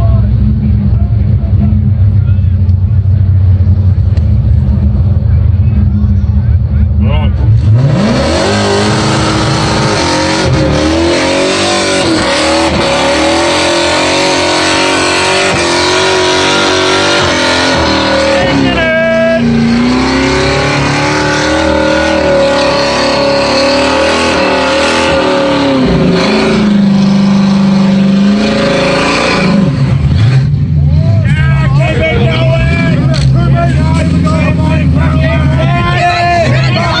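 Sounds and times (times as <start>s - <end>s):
car engine at high revs: 0.0s - 37.0s.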